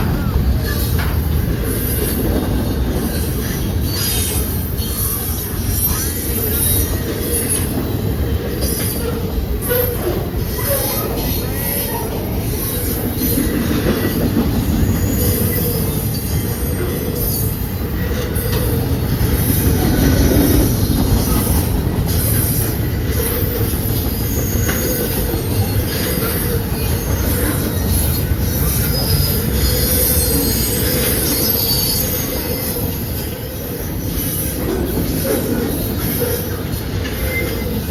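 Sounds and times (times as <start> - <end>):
faint wheel squeal: 0.0 - 37.9
freight train wheels rumbling: 0.0 - 37.9.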